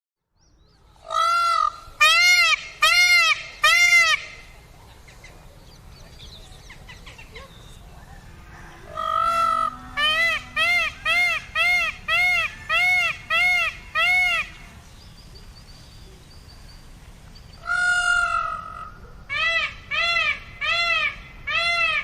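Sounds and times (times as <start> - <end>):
peacock calling: 1.0 - 14.9, 17.5 - 22.0.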